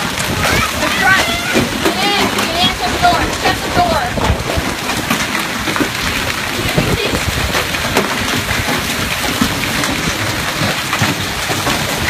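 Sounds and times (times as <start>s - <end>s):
hail and rain falling hard: 0.0s - 12.0s.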